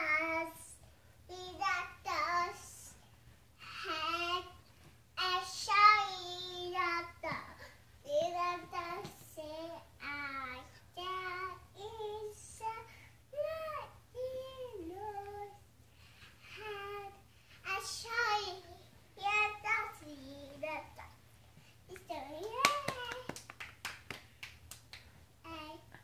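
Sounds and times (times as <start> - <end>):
toddler girl singing: 0.0 - 3.0, 3.6 - 15.7, 16.4 - 23.4, 25.4 - 26.0.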